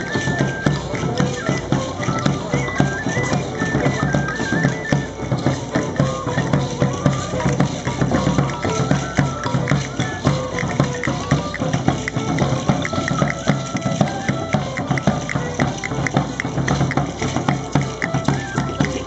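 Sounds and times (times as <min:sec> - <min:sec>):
high held melody: 0:00.0 - 0:19.0.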